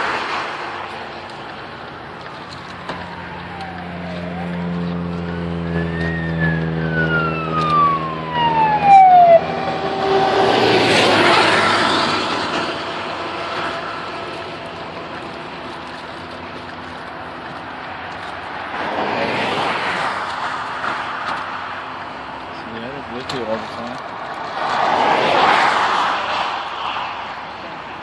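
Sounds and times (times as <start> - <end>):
vehicle rushing past: 0.0 - 16.8, 17.6 - 28.0
heavy engine drone: 0.0 - 28.0
emergency vehicle siren wailing: 1.3 - 28.0.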